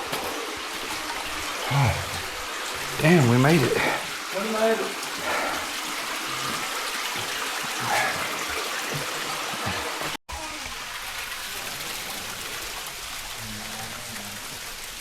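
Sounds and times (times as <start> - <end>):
stream splashing over rock: 0.0 - 15.0.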